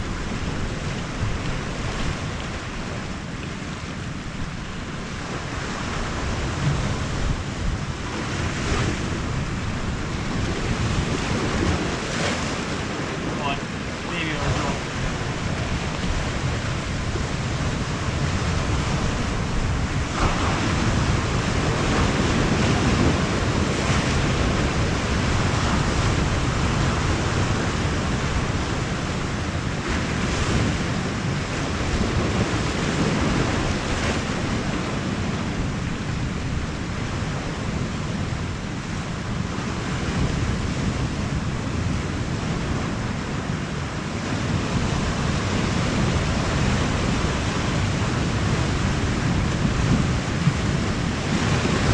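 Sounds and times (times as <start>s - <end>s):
sea surf washing on shore: 0.0s - 51.9s
wind on microphone: 0.0s - 51.9s.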